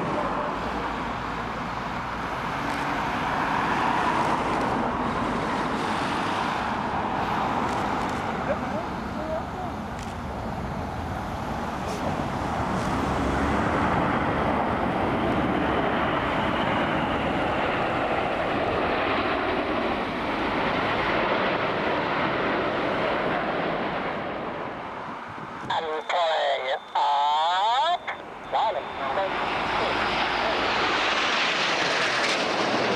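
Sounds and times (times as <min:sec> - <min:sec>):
jet aircraft roar: 0:00.0 - 0:32.9.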